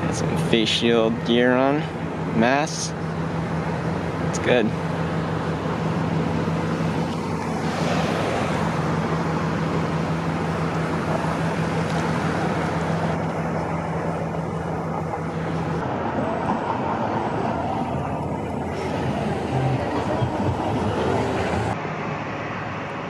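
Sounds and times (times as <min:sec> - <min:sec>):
outdoor traffic noise: 0:00.0 - 0:23.0.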